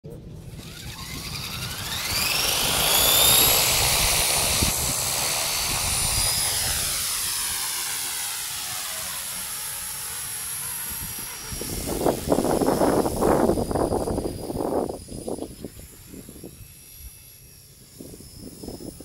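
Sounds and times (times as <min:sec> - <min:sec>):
rc helicopter motor whining: 0:00.2 - 0:19.0.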